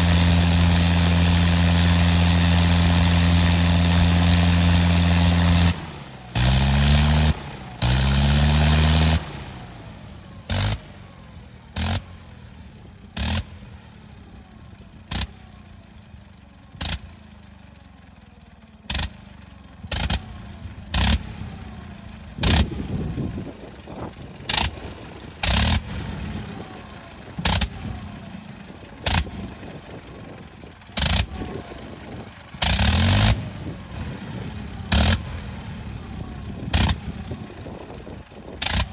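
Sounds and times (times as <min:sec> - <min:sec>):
rotary engine running: 0:00.0 - 0:11.0, 0:14.4 - 0:38.9.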